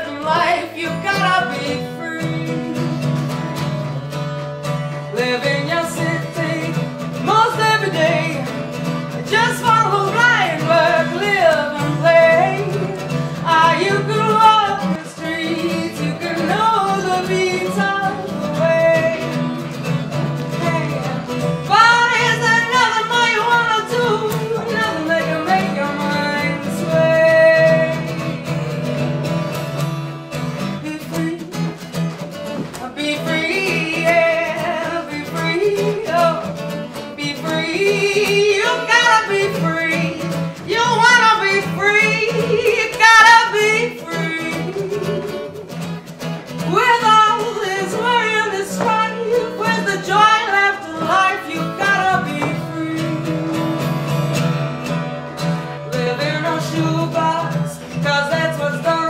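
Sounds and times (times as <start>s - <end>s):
strummed acoustic guitar: 0.0s - 59.0s
woman singing: 0.0s - 59.0s.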